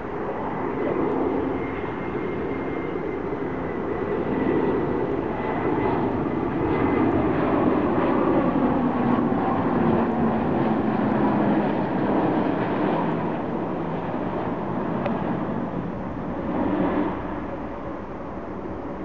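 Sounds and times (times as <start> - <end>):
jet engines rushing and whining: 0.0 - 19.0.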